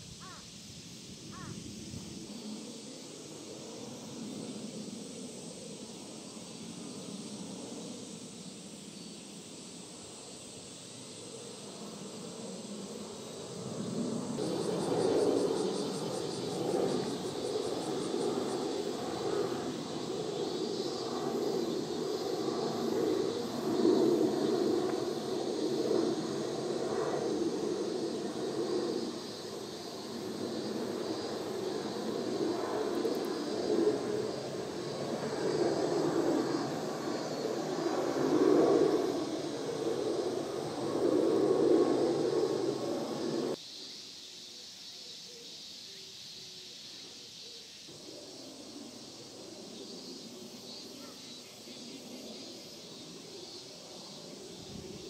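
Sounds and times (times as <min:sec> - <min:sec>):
insect buzzing: 0:00.0 - 0:55.0
jet engine rumble overhead: 0:00.0 - 0:55.0.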